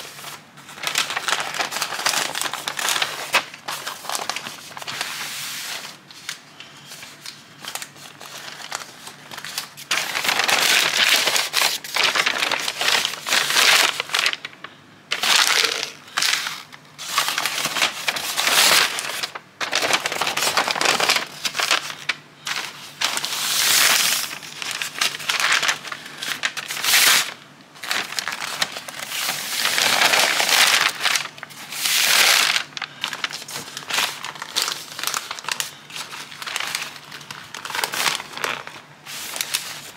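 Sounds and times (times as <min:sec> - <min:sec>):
paper crinkling and rustling: 0:00.0 - 0:39.9.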